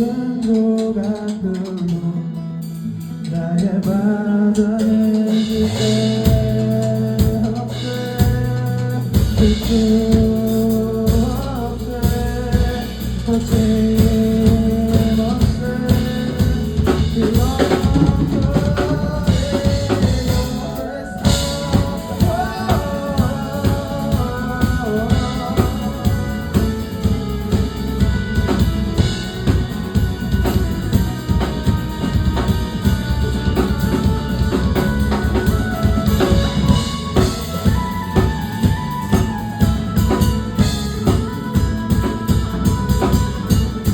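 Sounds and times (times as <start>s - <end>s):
bass: 0.0s - 43.9s
drum kit beat: 2.7s - 43.9s
sliding melodic lead line: 5.3s - 43.9s.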